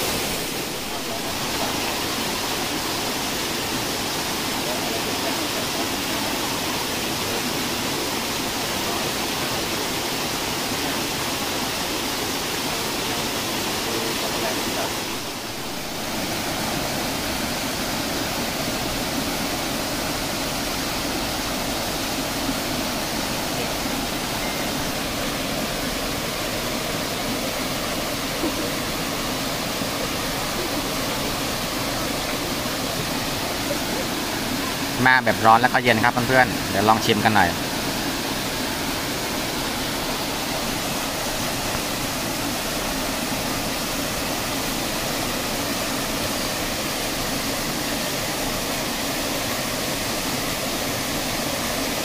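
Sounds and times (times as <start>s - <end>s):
waterfall and stream rushing: 0.0s - 52.0s.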